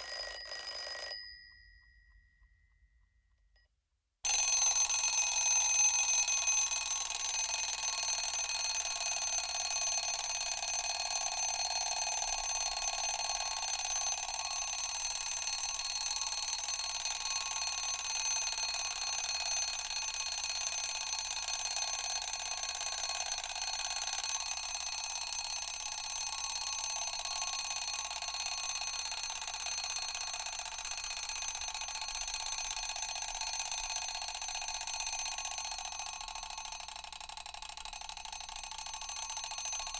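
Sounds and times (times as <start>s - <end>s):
alarm clock bell ringing: 0.0s - 3.1s, 4.2s - 39.9s.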